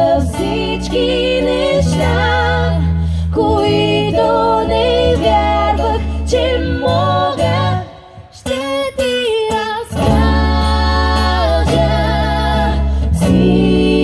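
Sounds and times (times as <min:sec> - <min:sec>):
low steady bass: 0:00.0 - 0:07.9, 0:10.0 - 0:14.0
women singing: 0:00.0 - 0:14.0.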